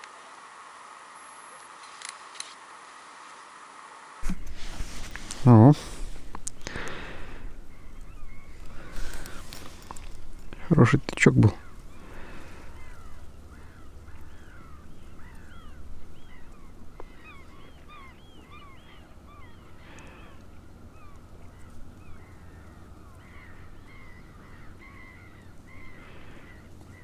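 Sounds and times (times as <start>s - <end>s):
birds calling: 4.3s - 27.0s.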